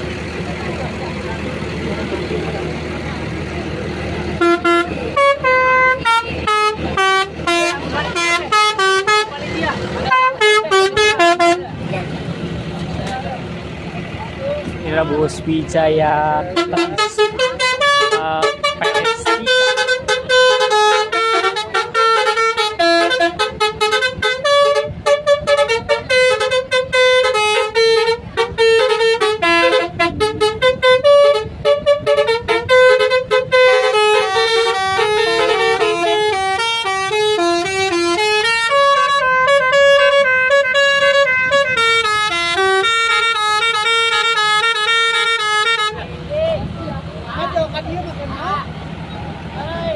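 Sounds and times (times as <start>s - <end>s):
bus musical horn melody: 0.9s - 11.8s, 16.2s - 46.4s.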